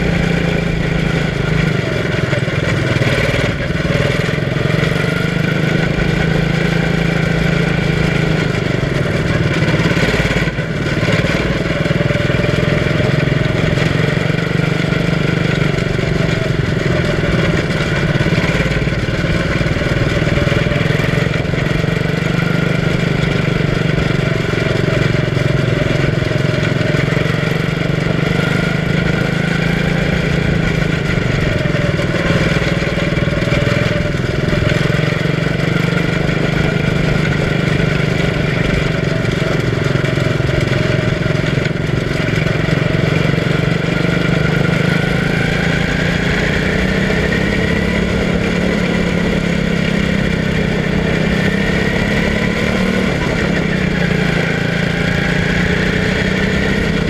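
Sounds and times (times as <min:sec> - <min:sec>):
small race car engine running: 0:00.0 - 0:57.0.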